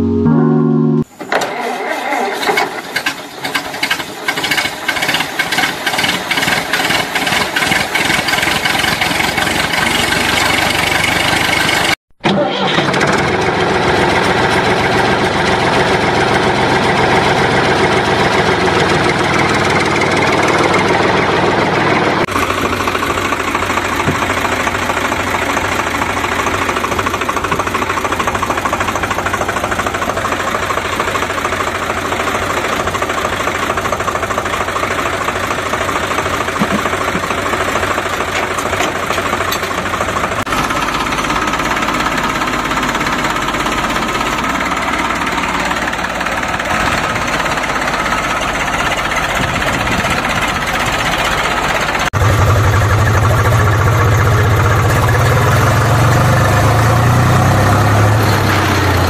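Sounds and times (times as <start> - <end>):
tractor engine chugging: 1.5 - 59.0.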